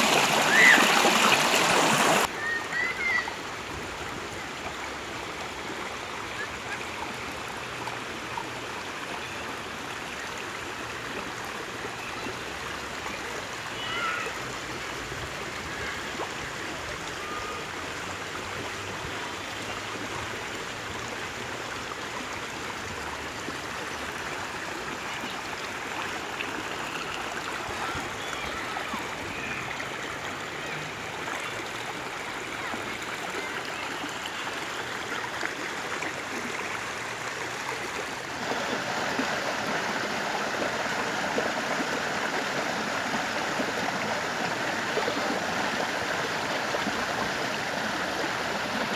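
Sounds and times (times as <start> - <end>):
stream water babbling: 0.0 - 48.9.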